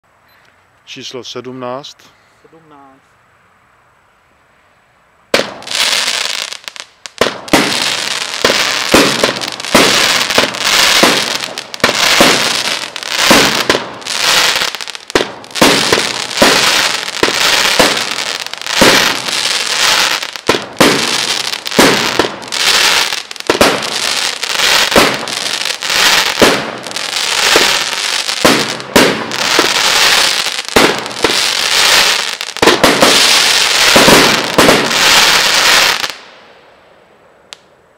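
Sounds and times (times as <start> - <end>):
hiss between firework bursts: 5.3 - 36.5
firework cake firing: 5.4 - 36.2.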